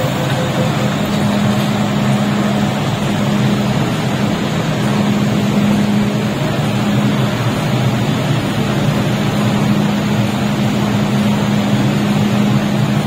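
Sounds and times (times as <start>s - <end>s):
continuous rushing noise: 0.0s - 13.0s
train steady low hum: 0.0s - 13.0s.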